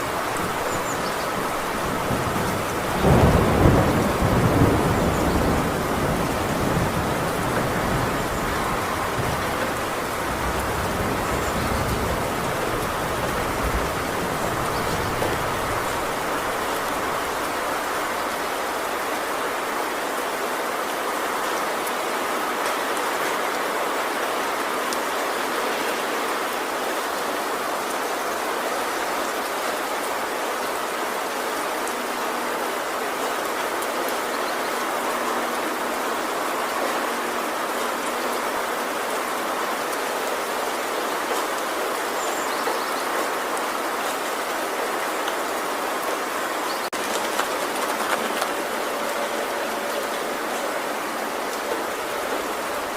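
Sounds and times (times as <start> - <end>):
heavy rain on a tin roof: 0.0 - 52.9.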